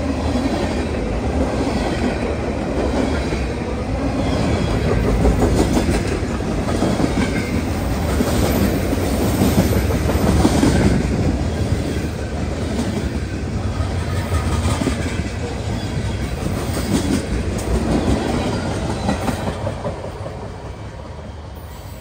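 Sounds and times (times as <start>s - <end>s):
freight train cars rolling past: 0.0s - 22.0s.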